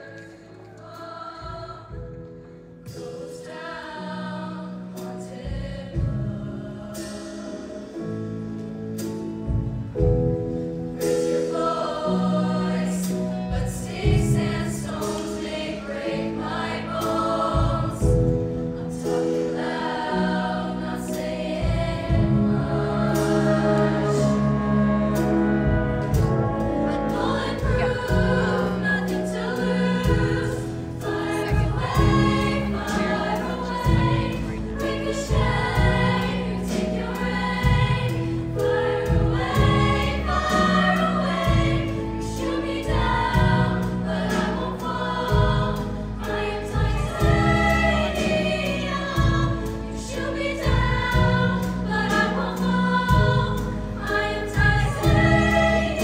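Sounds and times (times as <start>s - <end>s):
choir singing in parts: 0.0s - 8.4s, 11.0s - 56.0s
instrumental accompaniment: 0.0s - 56.0s.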